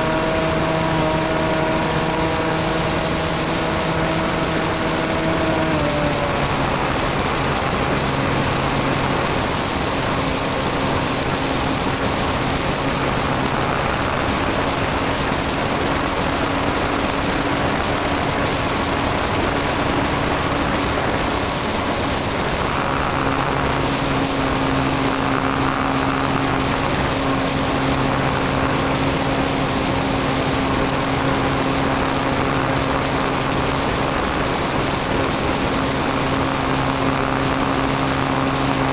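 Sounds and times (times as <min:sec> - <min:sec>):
model airplane engine running: 0:00.0 - 0:38.9
wind noise: 0:00.0 - 0:38.9.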